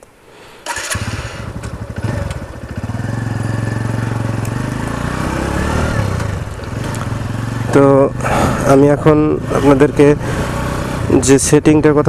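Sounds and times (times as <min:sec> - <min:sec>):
motorcycle engine revving: 0:00.6 - 0:11.6.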